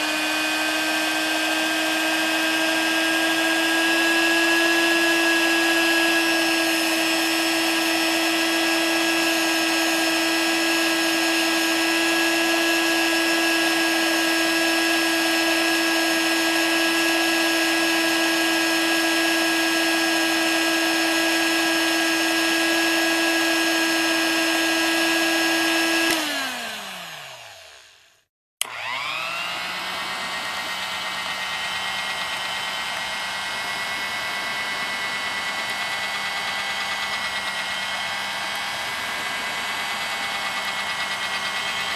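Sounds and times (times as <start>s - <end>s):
electric mixer whining: 0.0s - 41.9s.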